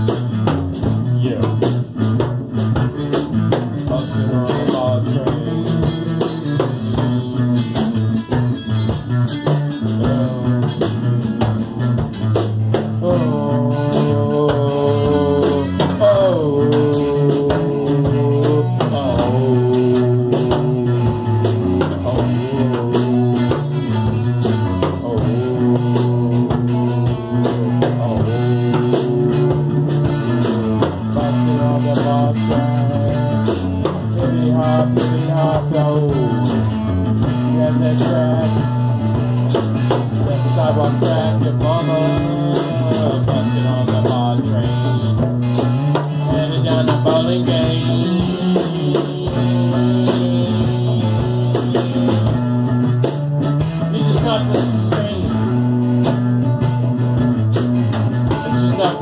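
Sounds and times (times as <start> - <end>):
bass guitar line: 0.0 - 59.0
djembe rhythm: 0.0 - 59.0
electric guitar lead: 0.0 - 59.0.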